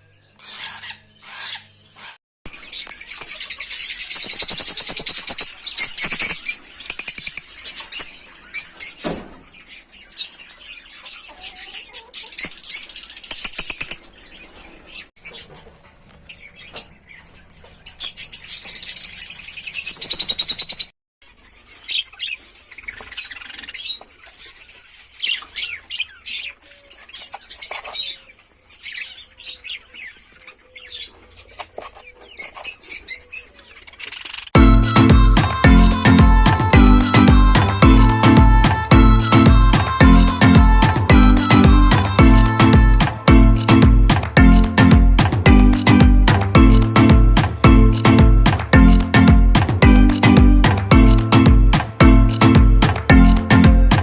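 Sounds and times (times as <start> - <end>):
cage birds chirping and chattering: 0.0 - 46.0, 46.6 - 54.0.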